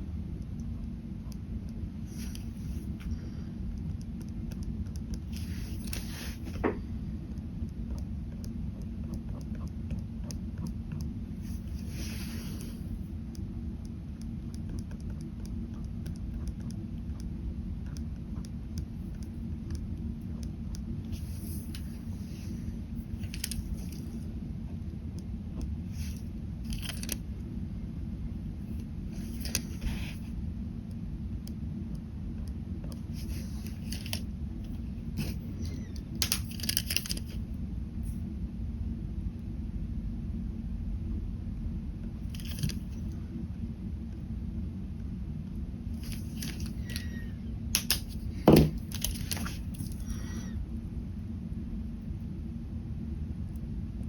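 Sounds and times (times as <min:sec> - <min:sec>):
low background rumble: 0:00.0 - 0:54.0
steady low hum: 0:00.0 - 0:54.0.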